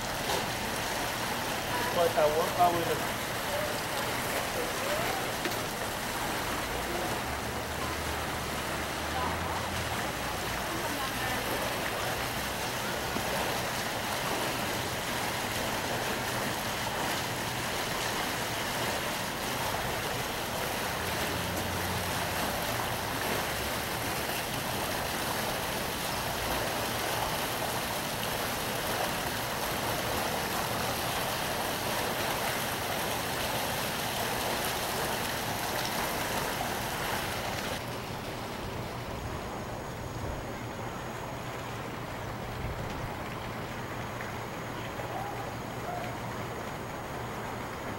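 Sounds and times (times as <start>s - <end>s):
water pouring and splashing: 0.0s - 47.9s.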